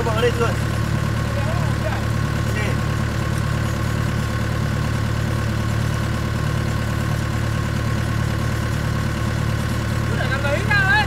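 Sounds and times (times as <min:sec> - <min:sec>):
excavator engine idling: 0:00.0 - 0:11.0.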